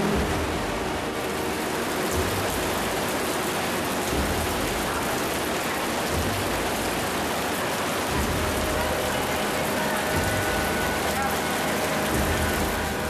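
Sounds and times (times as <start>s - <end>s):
mountain torrent rushing: 0.0s - 13.0s.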